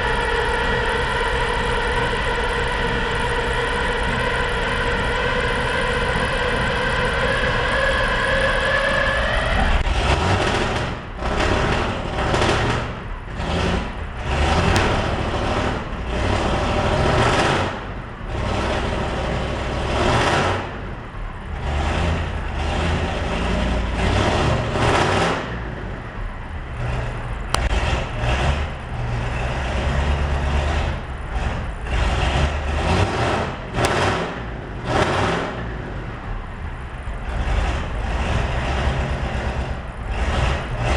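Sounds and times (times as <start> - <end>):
diesel engine revving: 0.0 - 40.9
diesel engine whining: 0.0 - 40.9.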